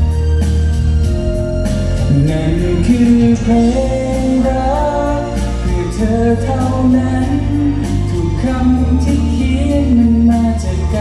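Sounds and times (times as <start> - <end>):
music with bass and drums: 0.0 - 11.0
man singing into microphone: 2.0 - 11.0.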